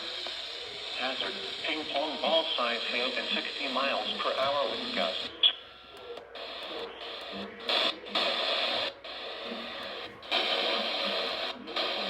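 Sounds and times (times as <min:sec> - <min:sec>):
radio static hissing: 0:00.0 - 0:12.0
automated warning voice: 0:00.8 - 0:12.0.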